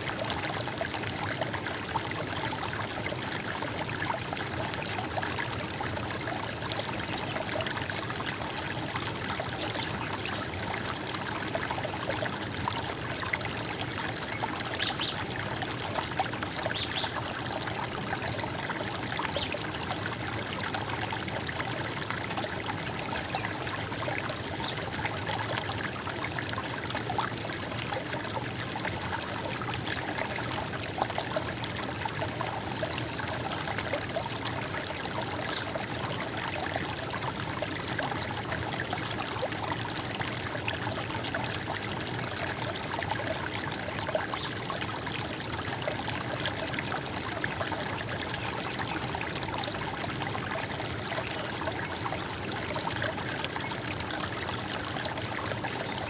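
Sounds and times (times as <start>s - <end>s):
running water gurgling: 0.0s - 56.0s.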